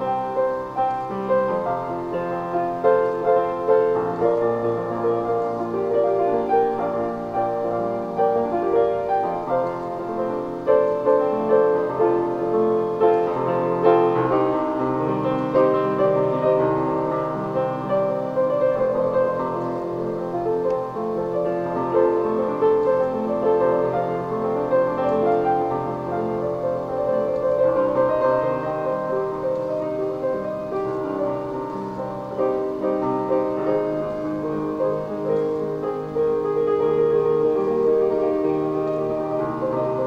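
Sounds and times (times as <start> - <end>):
solo piano: 0.0 - 40.0.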